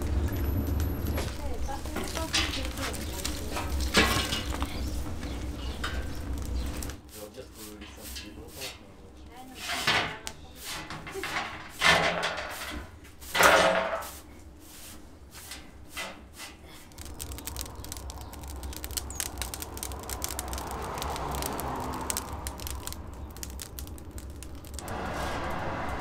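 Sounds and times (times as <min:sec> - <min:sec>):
fire rushing and crackling: 0:00.0 - 0:26.0
straw broom scraping: 0:01.2 - 0:22.0, 0:24.7 - 0:26.0.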